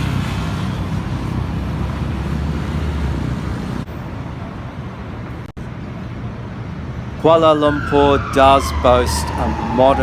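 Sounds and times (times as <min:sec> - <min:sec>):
passing vehicles rumble: 0:00.0 - 0:10.0.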